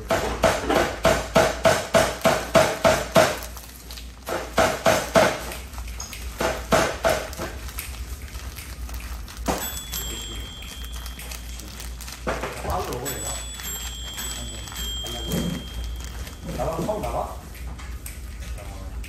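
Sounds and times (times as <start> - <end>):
cookies being pounded: 0.0 - 17.2.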